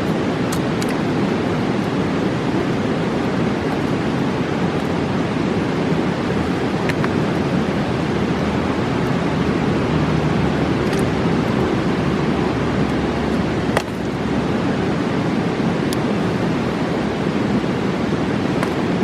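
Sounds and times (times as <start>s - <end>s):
campfire popping: 0.0s - 16.8s, 17.7s - 19.0s
river rushing: 0.0s - 19.0s.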